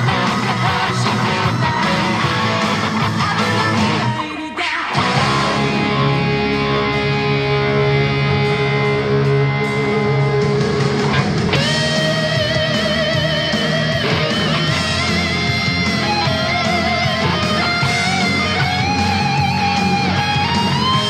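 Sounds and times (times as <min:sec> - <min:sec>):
backing track: 0:00.0 - 0:21.0
electric guitar playing rock: 0:00.0 - 0:21.0.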